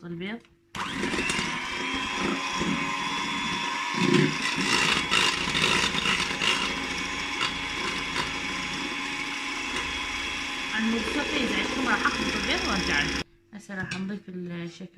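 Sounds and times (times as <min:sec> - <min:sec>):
electric mixer whipping: 0:00.8 - 0:13.3.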